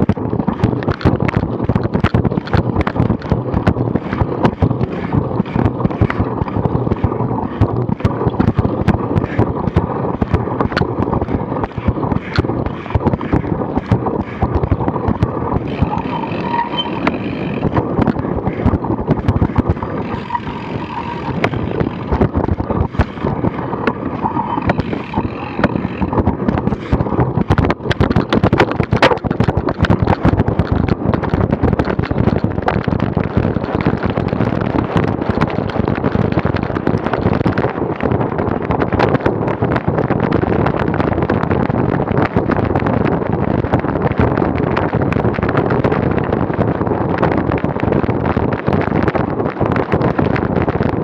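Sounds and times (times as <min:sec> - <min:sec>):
bike rattling over rough ground: 0:00.0 - 0:51.0
wind buffeting microphone: 0:00.0 - 0:51.0.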